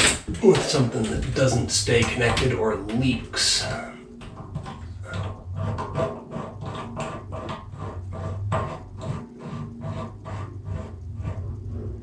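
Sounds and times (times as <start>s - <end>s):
faint low hum: 0.0s - 12.0s
threads rubbing and clicking: 0.0s - 12.0s.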